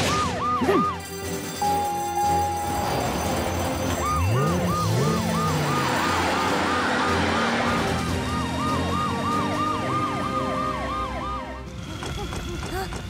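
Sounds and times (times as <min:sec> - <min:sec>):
fast yelping siren: 0:00.0 - 0:11.7
slow wailing siren: 0:00.0 - 0:11.8.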